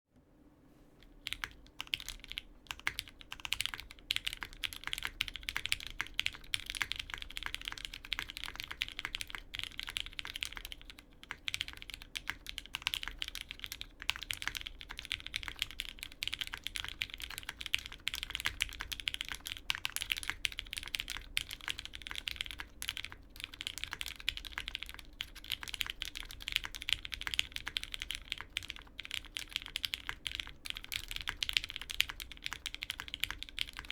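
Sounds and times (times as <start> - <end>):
fast typing on mechanical keyboard: 1.2 - 33.9.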